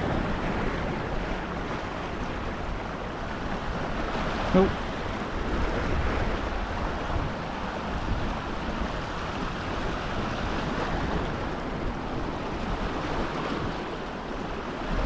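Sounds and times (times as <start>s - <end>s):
surf washing against rocks: 0.0s - 15.0s
wind buffeting microphone: 0.0s - 15.0s.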